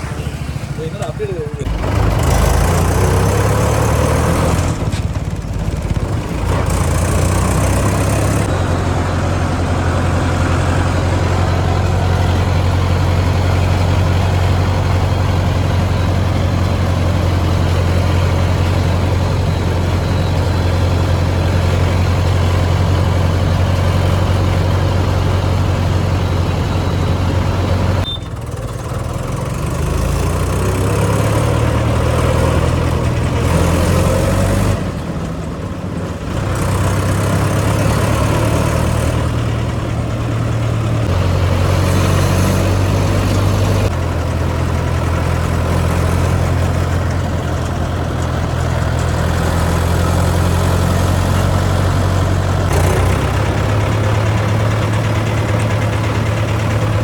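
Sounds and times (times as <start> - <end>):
heavy vehicle engine running: 0.0 - 57.0.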